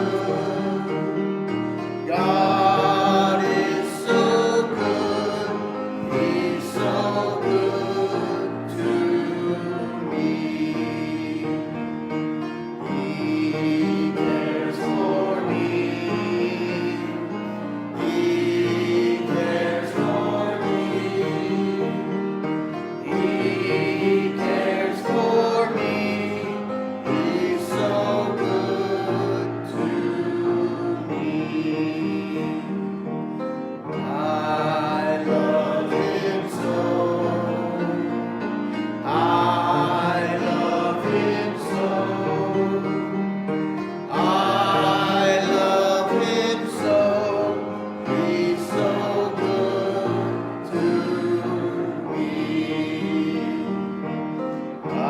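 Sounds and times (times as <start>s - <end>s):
group singing gospel chorus: 0.0s - 55.0s
instrumental accompaniment: 0.0s - 55.0s.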